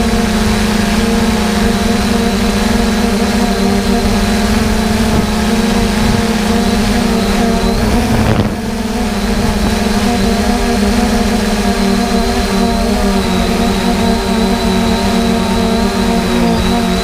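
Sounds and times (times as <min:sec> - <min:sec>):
harvest machinery engine hum: 0:00.0 - 0:17.0
thin high whine: 0:00.0 - 0:17.0.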